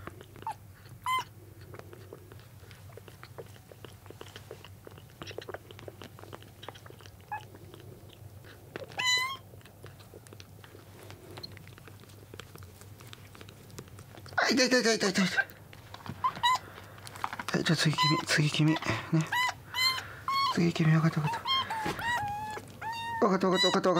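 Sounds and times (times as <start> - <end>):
kitten suckling wet clicks: 0.0 - 14.4, 15.0 - 23.9
kittens mewing: 0.0 - 23.9.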